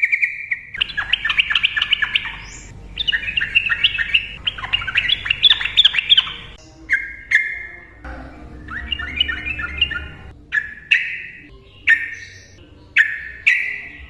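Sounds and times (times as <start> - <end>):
bird chattering song: 0.0 - 14.0.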